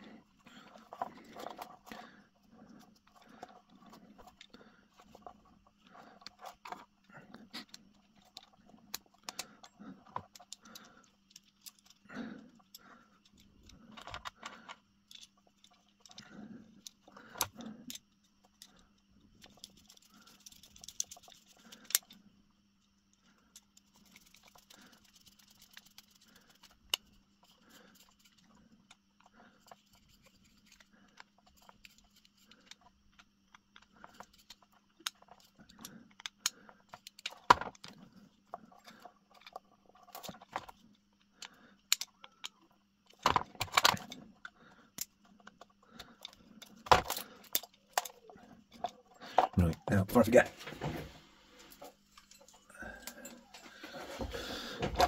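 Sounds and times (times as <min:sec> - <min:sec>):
plug parts clicking and scraping: 0:00.0 - 0:49.9, 0:50.6 - 0:55.0
faint steady hum: 0:00.0 - 0:55.0.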